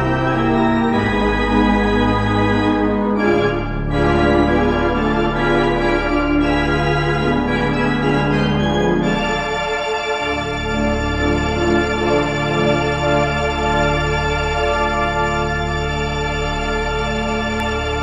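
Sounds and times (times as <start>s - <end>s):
deep organ pedal bass notes: 0.0s - 18.0s
organ playing sustained chords: 0.0s - 18.0s.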